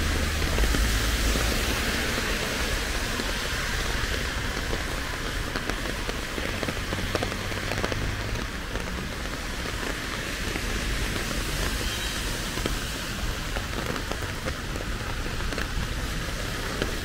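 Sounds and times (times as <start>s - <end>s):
heavy rain falling: 0.0s - 17.0s
raindrops ticking: 0.0s - 17.0s.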